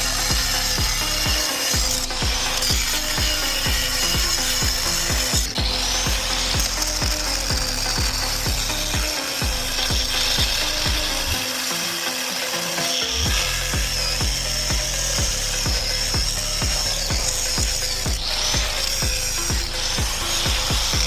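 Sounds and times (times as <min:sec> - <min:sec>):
power tool whining: 0:00.0 - 0:21.0.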